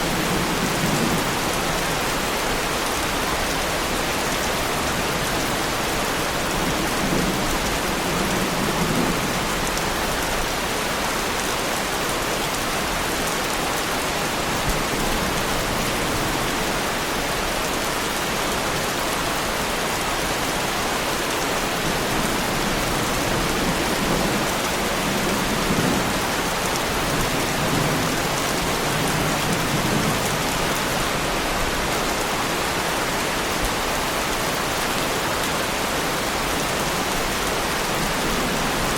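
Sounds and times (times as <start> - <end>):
heavy rain on a car: 0.0 - 38.9.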